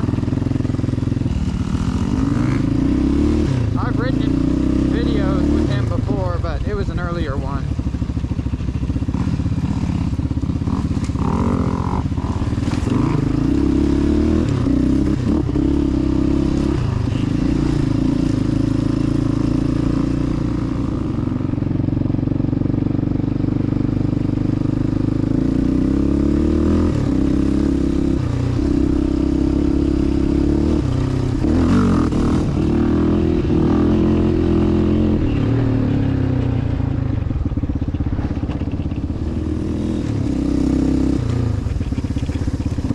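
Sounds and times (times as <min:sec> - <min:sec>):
quad bike engine revving: 0:00.0 - 0:42.9.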